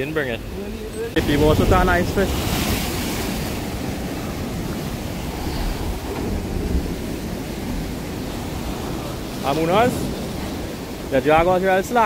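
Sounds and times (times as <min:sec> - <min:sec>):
sea surf washing against rocks: 0:00.4 - 0:12.0
wind rumbling on microphone: 0:01.2 - 0:12.0.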